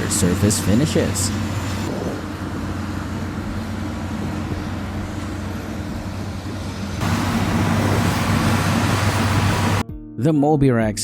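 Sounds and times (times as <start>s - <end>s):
diesel engine running: 0.0s - 9.8s
loud machine noise: 0.0s - 9.8s.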